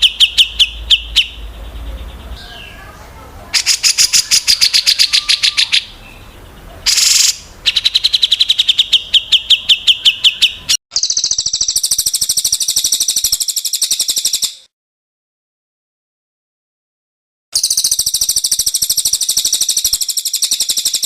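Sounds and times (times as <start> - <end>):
songbird trills: 0.0 - 14.7, 17.6 - 21.0.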